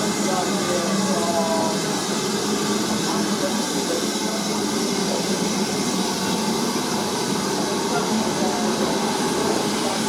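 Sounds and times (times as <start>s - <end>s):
train rushing noise: 0.0s - 10.0s.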